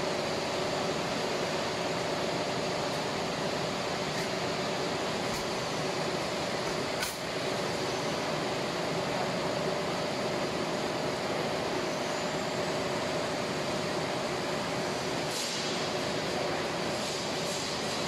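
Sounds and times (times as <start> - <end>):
machinery humming and hissing: 0.0 - 18.0.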